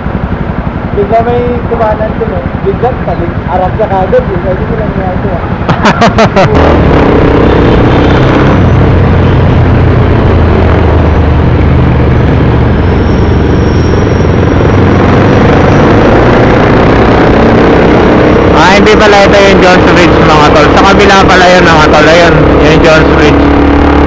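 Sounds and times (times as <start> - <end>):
scooter engine running: 0.0 - 24.0
wind and road noise: 0.0 - 24.0.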